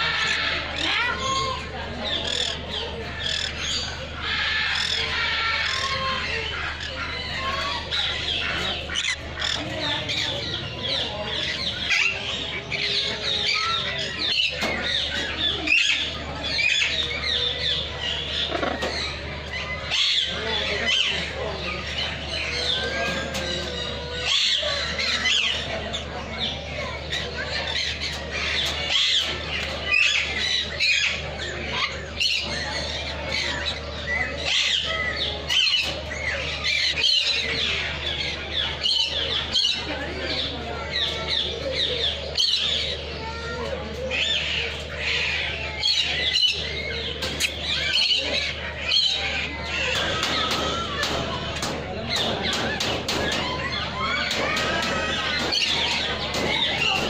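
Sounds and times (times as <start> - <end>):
small birds chirping and squawking: 0.0 - 57.0.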